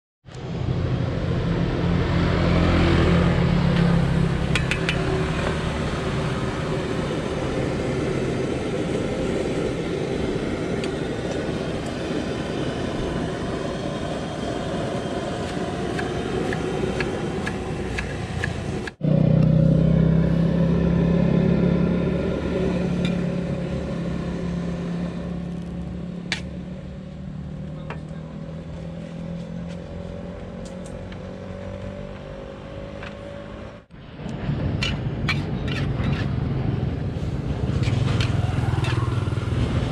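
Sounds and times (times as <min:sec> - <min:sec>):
road traffic rumbling: 0:00.2 - 0:39.9.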